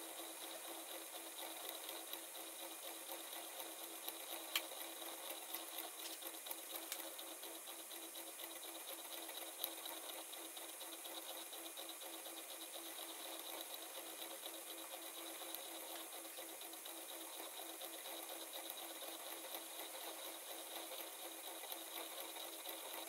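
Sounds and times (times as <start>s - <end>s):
milling machine spindle whir: 0.0s - 23.0s.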